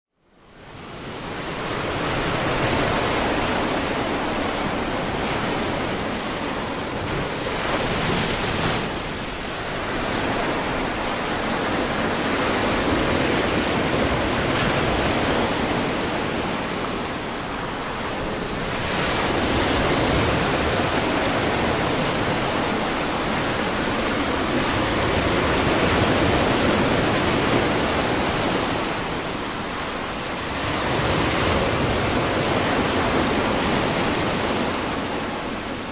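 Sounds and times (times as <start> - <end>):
sea surf breaking: 1.1 - 35.9.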